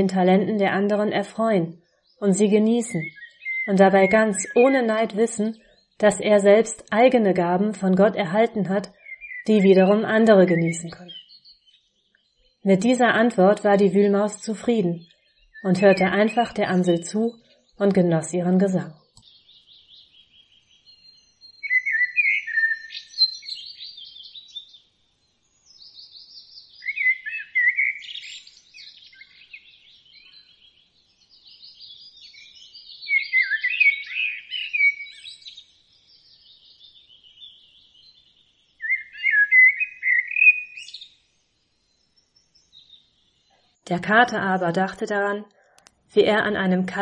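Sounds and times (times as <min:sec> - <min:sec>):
blackbird singing fluting phrases: 0:00.0 - 0:11.9, 0:12.7 - 0:24.7, 0:25.7 - 0:41.2
soft bird twittering: 0:00.0 - 0:47.0.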